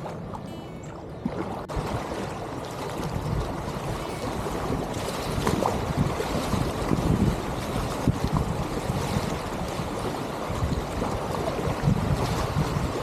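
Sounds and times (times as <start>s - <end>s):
river current rushing: 0.0s - 13.0s
water splashing: 0.0s - 13.0s.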